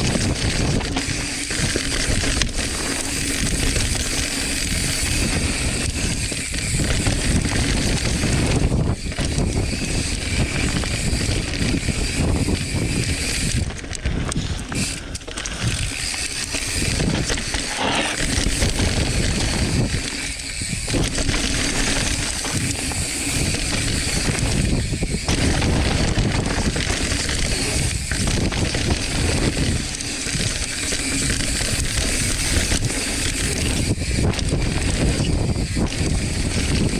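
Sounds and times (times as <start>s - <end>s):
bike tyres on dirt trail: 0.0s - 36.9s.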